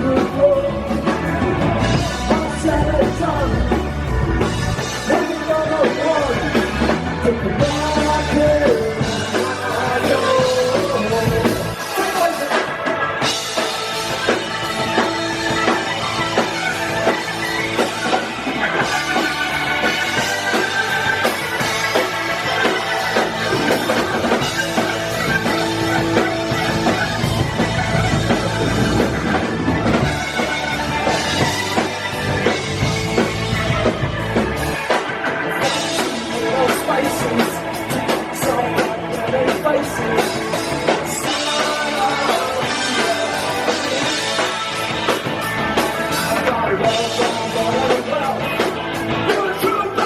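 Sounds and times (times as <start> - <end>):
drum kit: 0.0 - 50.0
electric guitars: 0.0 - 50.0.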